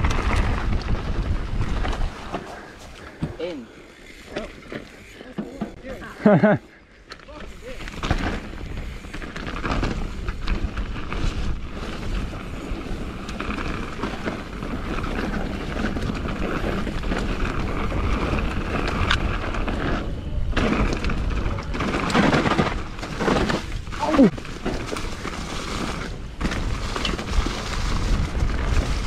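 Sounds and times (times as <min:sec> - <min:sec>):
wind on microphone: 0:00.0 - 0:03.3, 0:08.4 - 0:29.0
bike tyres rolling and rattling: 0:00.0 - 0:29.0.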